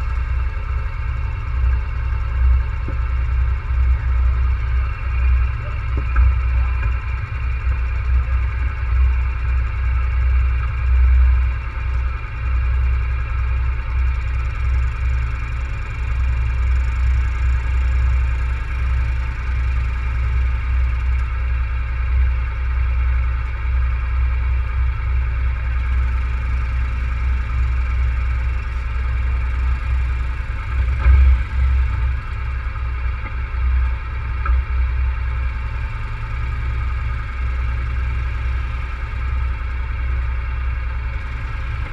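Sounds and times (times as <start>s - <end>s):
atv engine running: 0.0s - 41.9s.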